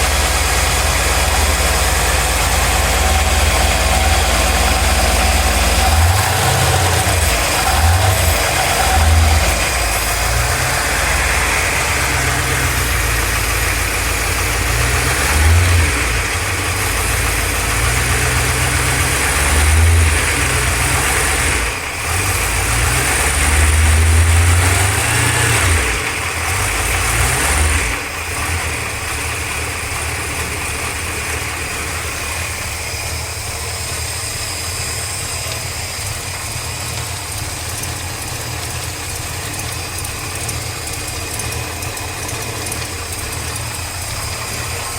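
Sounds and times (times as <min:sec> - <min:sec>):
engine idling and revving: 0:00.0 - 0:44.9.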